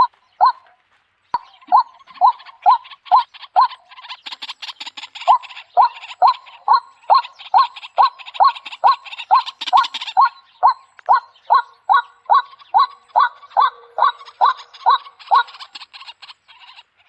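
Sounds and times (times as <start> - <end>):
bird calling hooked notes: 0.0 - 0.7, 1.4 - 16.2.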